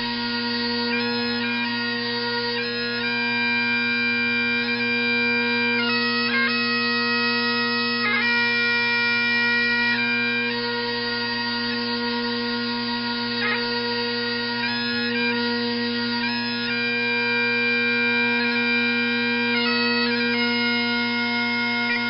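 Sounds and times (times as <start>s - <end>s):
bagpipes playing slow tune: 0.0s - 22.0s.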